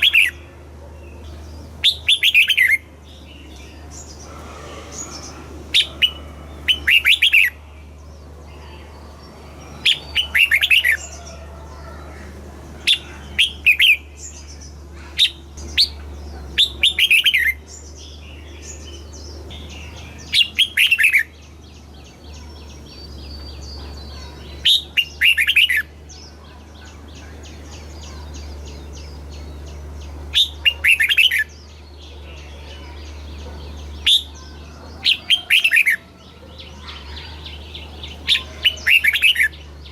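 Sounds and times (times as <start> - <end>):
bird singing warbled phrases: 0.0 - 39.9
steady low hum: 0.0 - 39.9.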